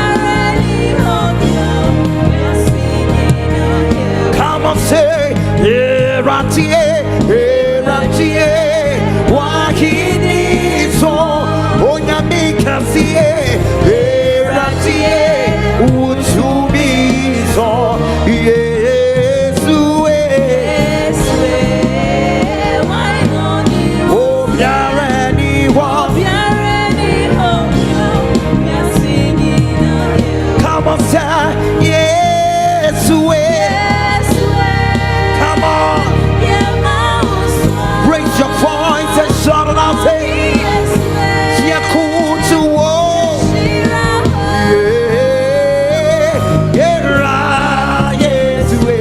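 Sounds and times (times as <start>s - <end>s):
band with bass and drums: 0.0s - 49.0s
choir singing: 0.0s - 49.0s.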